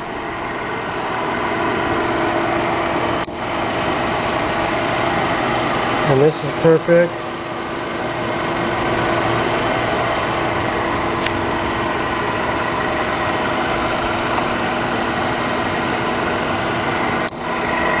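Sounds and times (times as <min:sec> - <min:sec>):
precision grinder running: 0:00.0 - 0:18.0.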